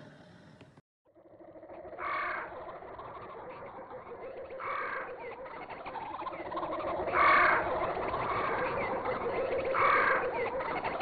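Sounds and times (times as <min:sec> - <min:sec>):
loud bird calls: 0:01.4 - 0:11.0.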